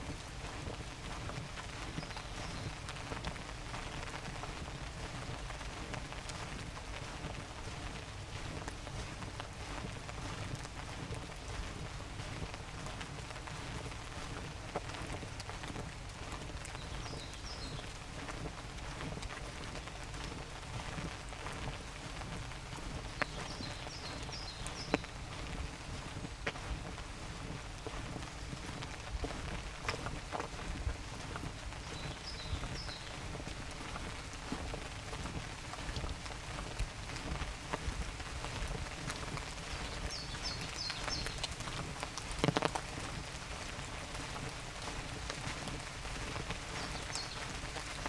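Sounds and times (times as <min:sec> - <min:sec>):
light rain in forest: 0:00.0 - 0:48.0
raindrops ticking: 0:00.0 - 0:48.0.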